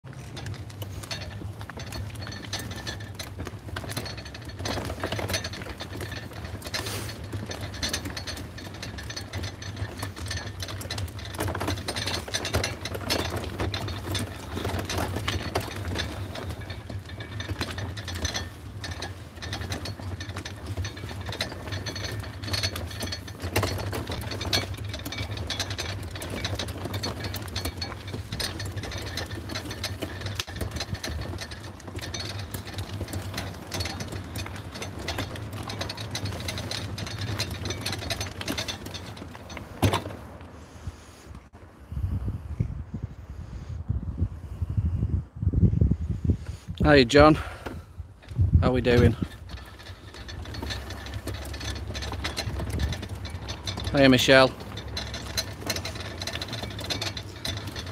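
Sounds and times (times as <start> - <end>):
trolley wheels rattling on pavement: 0.0 - 41.7, 45.7 - 57.9.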